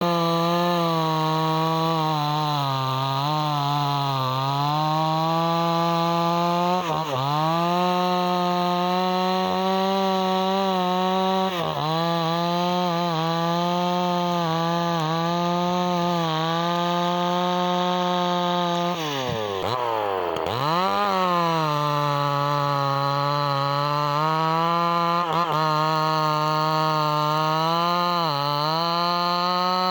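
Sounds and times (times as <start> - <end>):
chainsaw engine revving high: 0.0 - 29.9.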